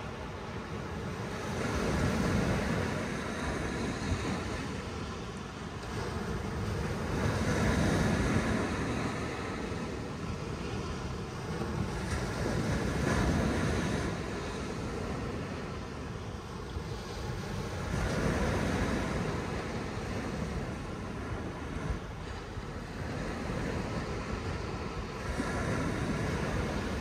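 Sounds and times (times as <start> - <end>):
small waves breaking on sand: 0.0 - 27.0.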